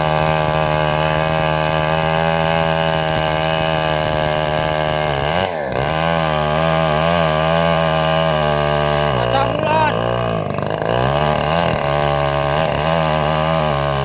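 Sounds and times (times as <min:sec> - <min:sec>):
engine-driven bandsaw cutting wood: 0:00.0 - 0:14.0.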